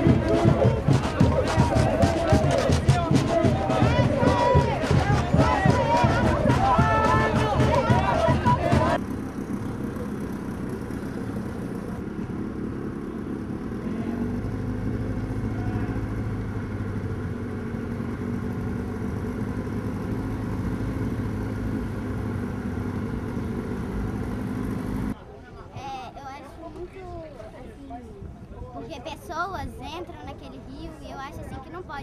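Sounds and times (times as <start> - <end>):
engine humming: 0.0 - 27.8.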